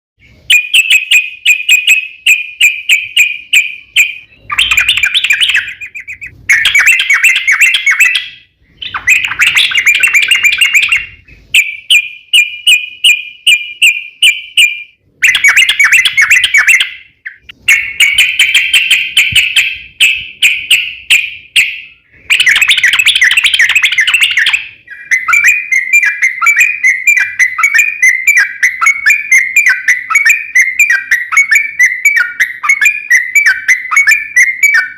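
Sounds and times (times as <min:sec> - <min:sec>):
bird singing rattling phrases: 0:00.2 - 0:34.9.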